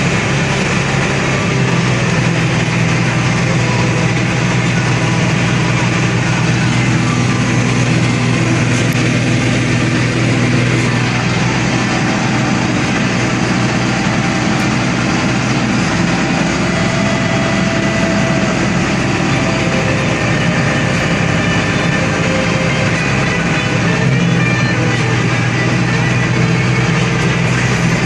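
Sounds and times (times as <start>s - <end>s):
diesel harvester engine drone: 0.0s - 28.0s.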